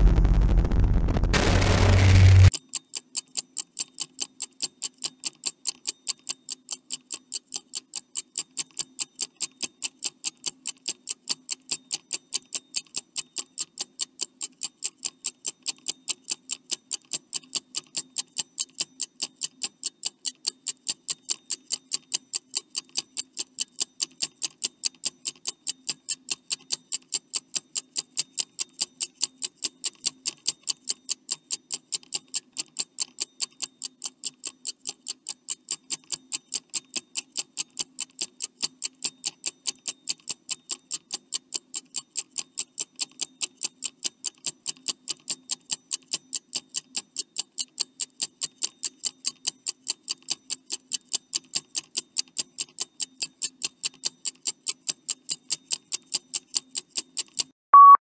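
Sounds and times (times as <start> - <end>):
clock ticking: 3.2 - 57.5.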